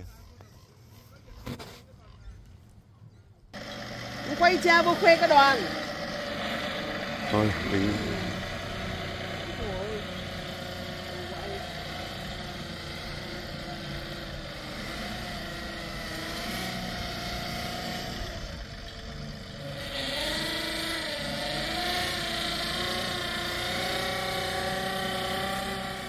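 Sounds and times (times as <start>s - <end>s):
engine running: 3.5s - 26.0s.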